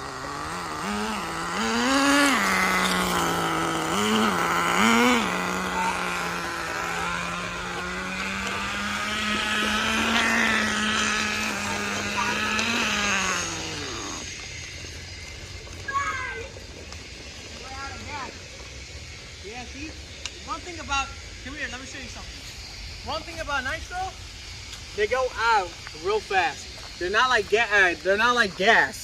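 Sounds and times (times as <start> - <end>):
small engine revving: 0.0 - 29.0.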